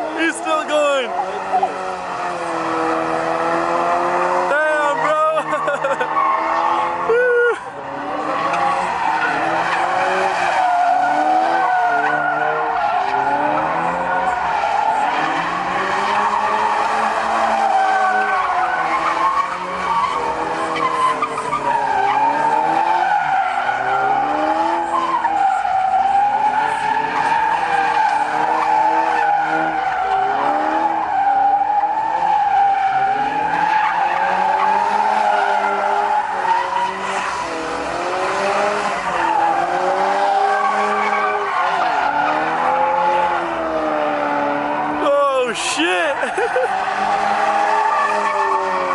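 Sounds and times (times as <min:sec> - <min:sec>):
car engine revving: 0:00.0 - 0:45.0, 0:46.1 - 0:48.9
car tyres squealing: 0:00.0 - 0:48.9.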